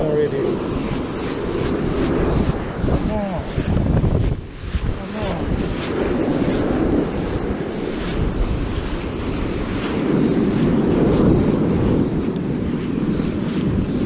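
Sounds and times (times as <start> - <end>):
ocean surf rushing: 0.0 - 14.0
wind buffeting microphone: 0.0 - 14.0.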